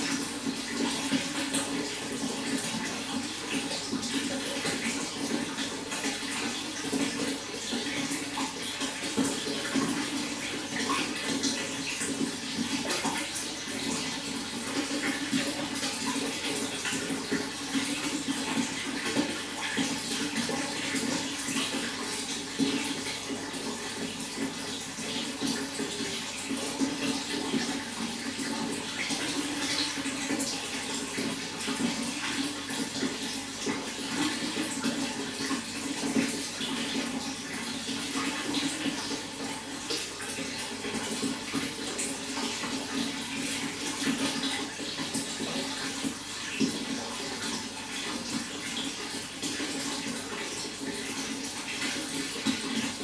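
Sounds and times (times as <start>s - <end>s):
running water: 0.0s - 53.0s
small splashes and trickles: 0.0s - 53.0s.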